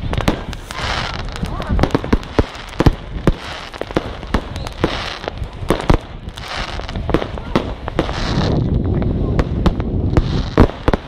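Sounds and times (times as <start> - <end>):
fireworks bangs and pops: 0.0 - 11.0
fizzing crackle of sparks: 0.0 - 11.0.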